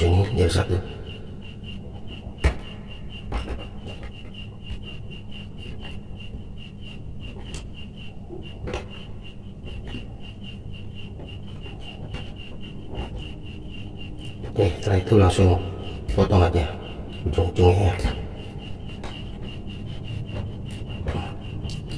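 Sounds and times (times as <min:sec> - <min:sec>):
pulsing high-pitched chirp: 0:00.0 - 0:21.9.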